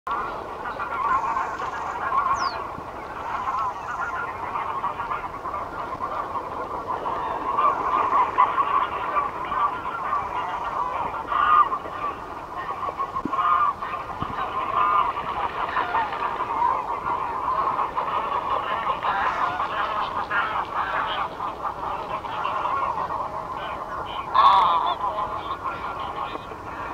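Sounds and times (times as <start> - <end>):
geese honking: 0.1 - 26.9.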